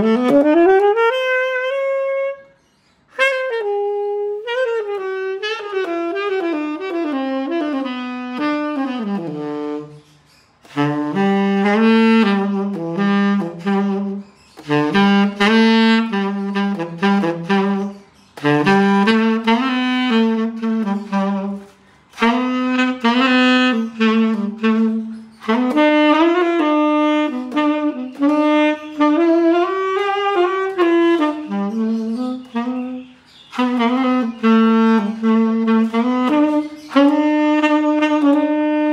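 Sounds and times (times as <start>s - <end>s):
tenor saxophone melody: 0.0s - 38.9s.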